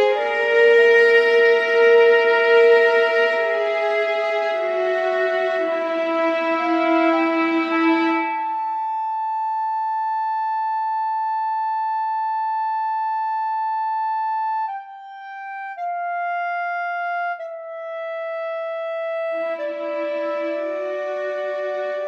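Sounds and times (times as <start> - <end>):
reedy wind instrument melody: 0.0 - 22.0.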